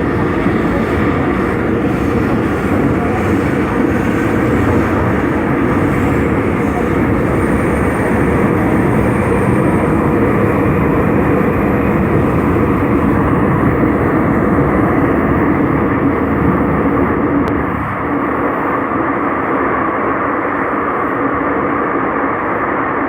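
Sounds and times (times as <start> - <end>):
subway train rumbling in tunnel: 0.0 - 23.0.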